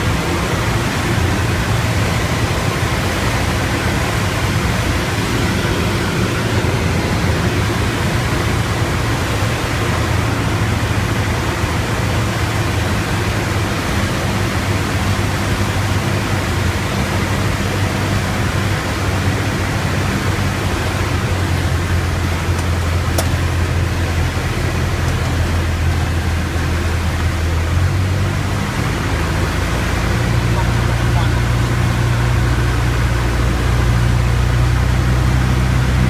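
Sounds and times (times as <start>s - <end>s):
propeller plane engine droning: 0.0s - 36.0s.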